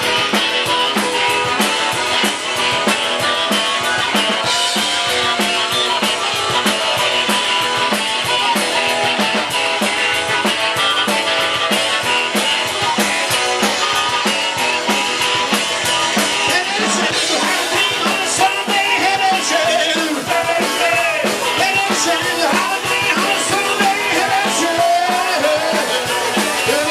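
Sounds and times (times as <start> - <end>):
drum kit beat: 0.0 - 26.9
electric guitar: 0.0 - 26.9
live rock and roll band: 0.0 - 26.9.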